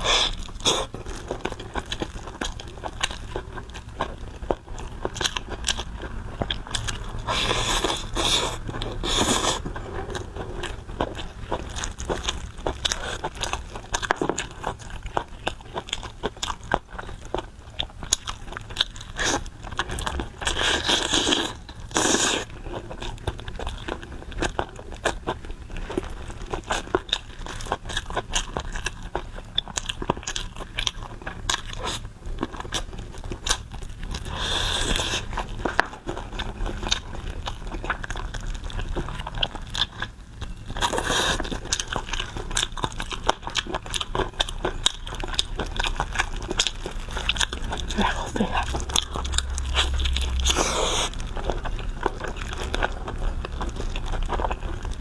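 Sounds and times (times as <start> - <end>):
wet crunchy chewing: 0.0 - 55.0.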